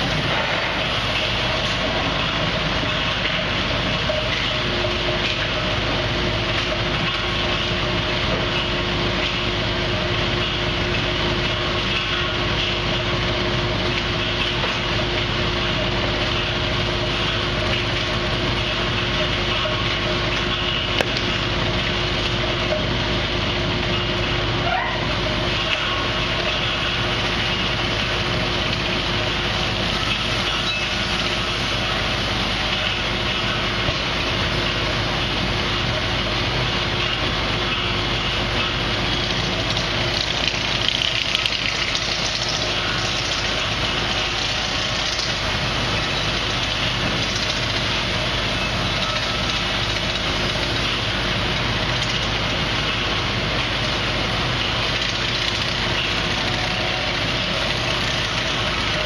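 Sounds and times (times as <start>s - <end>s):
band sawmill machinery drone: 0.0s - 59.0s.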